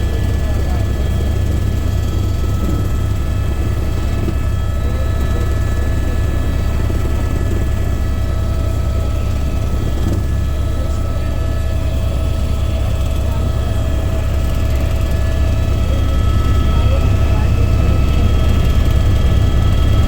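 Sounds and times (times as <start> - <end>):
helicopter rotor and engine rumble: 0.0 - 20.0.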